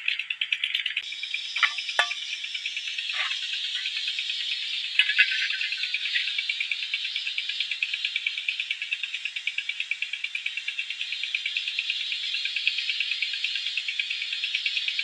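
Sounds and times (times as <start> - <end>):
insect trilling: 1.0 - 15.0.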